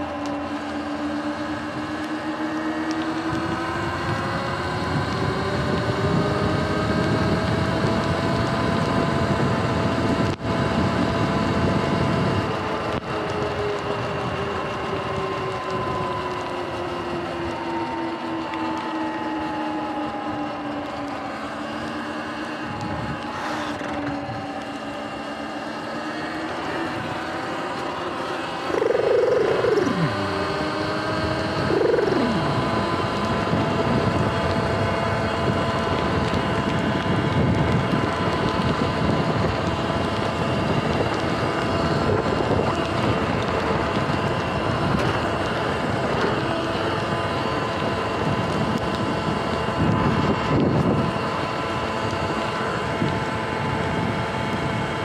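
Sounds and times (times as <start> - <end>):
electric motor whining: 0.0 - 55.0
wind: 0.0 - 55.0.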